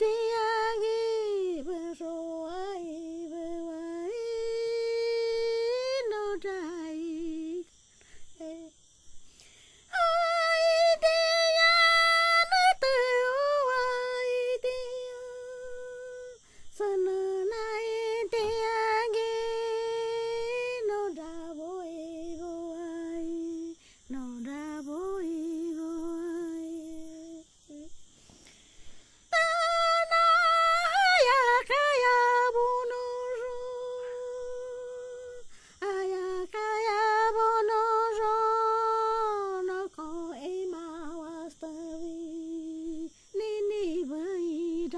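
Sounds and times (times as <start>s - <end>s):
woman singing unaccompanied: 0.0s - 8.8s, 9.4s - 28.0s, 29.2s - 44.9s.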